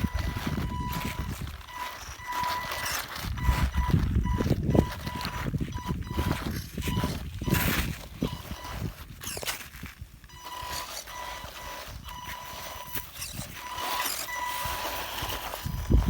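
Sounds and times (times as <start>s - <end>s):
drivetrain clicks and tyre scrapes: 0.0s - 16.0s
electric motor whining: 0.0s - 16.0s.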